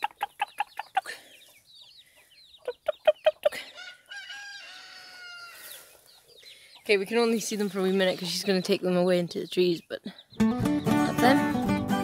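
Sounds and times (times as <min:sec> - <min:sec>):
hen clucking: 0:00.0 - 0:11.6
chicks peeping: 0:00.0 - 0:11.8.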